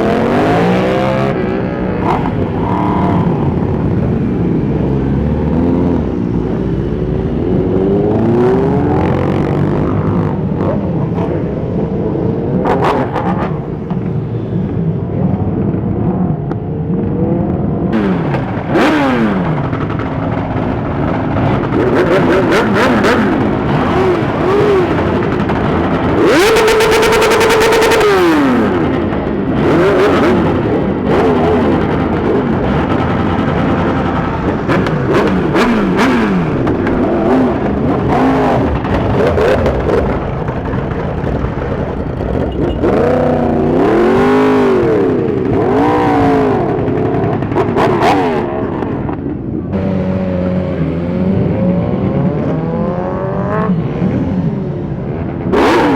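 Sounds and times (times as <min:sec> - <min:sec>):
superbike engines revving: 0:00.0 - 0:55.9.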